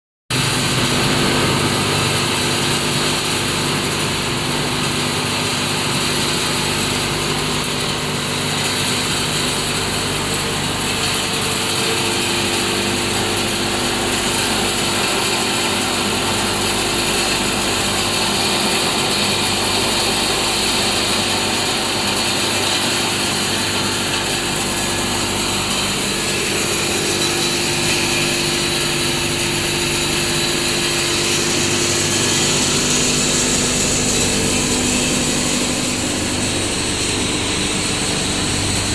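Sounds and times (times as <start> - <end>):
steady mechanical hum: 0.3 - 38.9
milling machine running: 0.4 - 38.9.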